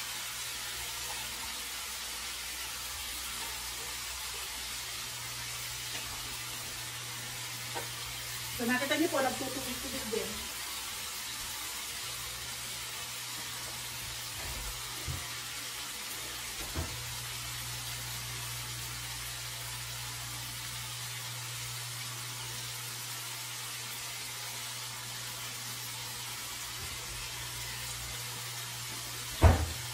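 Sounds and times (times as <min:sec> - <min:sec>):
chicken sizzling in oil: 0:00.0 - 0:29.9.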